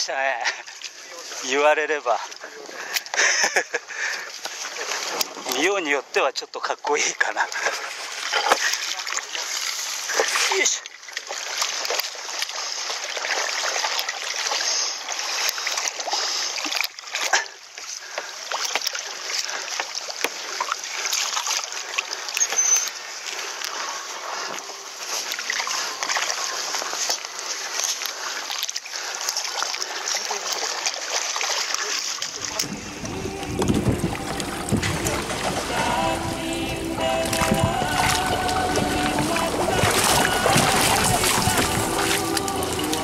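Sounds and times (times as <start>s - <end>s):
water splashing and sloshing: 0.0s - 43.0s.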